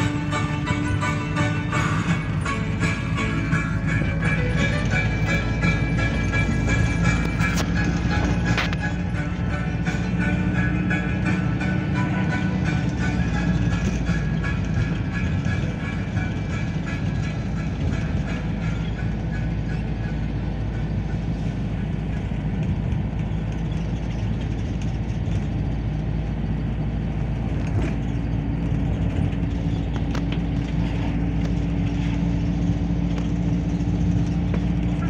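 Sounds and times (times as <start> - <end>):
low engine hum: 0.0 - 35.0
vehicle engine and road noise: 0.0 - 35.0.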